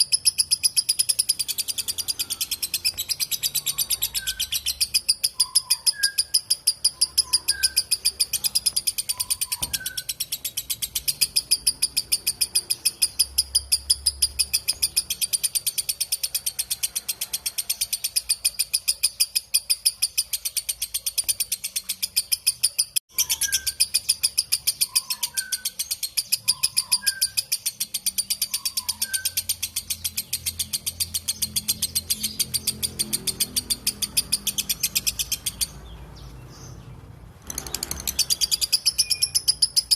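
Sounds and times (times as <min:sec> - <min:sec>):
lovebird shrill trill: 0:00.0 - 0:20.7, 0:21.4 - 0:35.9, 0:37.5 - 0:39.9
faint bird chirps: 0:00.0 - 0:39.9.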